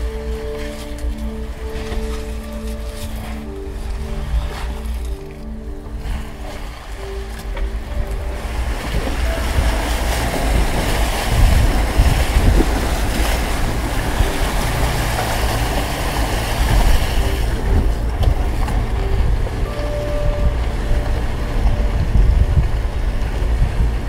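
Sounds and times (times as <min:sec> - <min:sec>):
vehicle driving on dirt: 0:00.0 - 0:24.0
water rushing and splashing: 0:00.0 - 0:24.0
wind rumble on microphone: 0:00.0 - 0:24.0.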